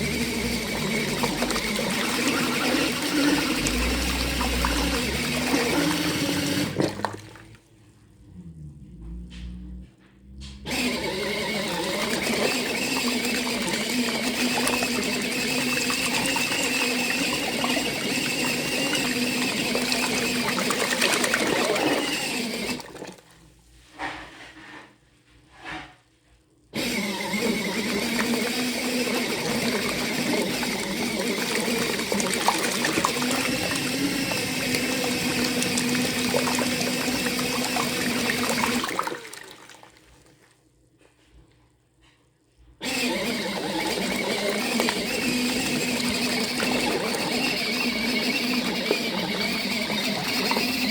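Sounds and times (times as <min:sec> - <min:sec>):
water churning: 0:00.0 - 0:08.0, 0:10.7 - 0:23.3, 0:26.8 - 0:40.5, 0:42.8 - 0:50.9
washing machine motor hum: 0:00.0 - 0:24.6, 0:26.7 - 0:41.3, 0:42.0 - 0:50.9.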